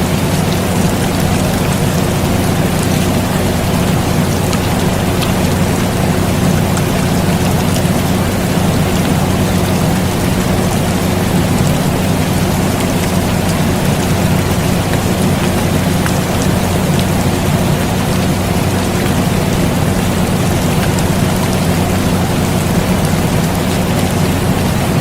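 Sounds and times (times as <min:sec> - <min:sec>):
air conditioner humming: 0:00.0 - 0:25.0
raindrop ticks: 0:00.0 - 0:25.0
steady rain falling: 0:00.0 - 0:25.0.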